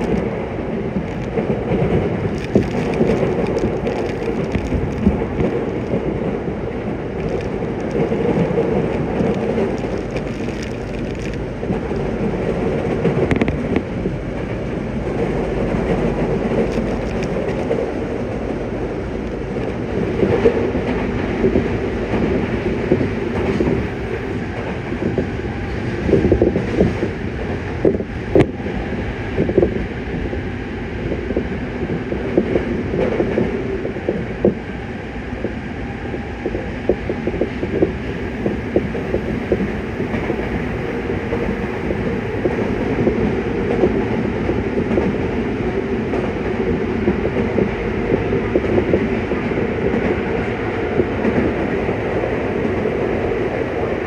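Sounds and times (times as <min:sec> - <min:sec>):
rail joint clicks: 0:00.0 - 0:54.0
train wheels rumbling on rail: 0:00.0 - 0:54.0.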